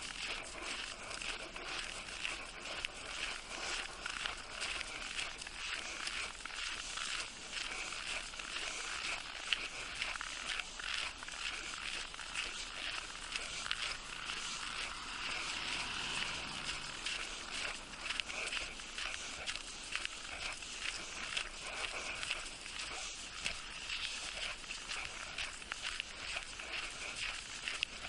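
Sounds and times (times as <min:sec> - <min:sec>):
footsteps crunching in snow: 0:00.0 - 0:28.0.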